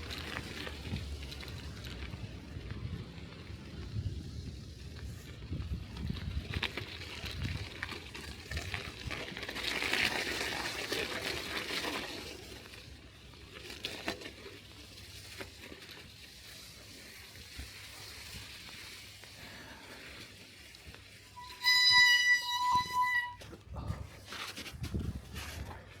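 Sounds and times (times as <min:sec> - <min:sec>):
bicycle tyres hissing through slush: 0:00.0 - 0:23.4.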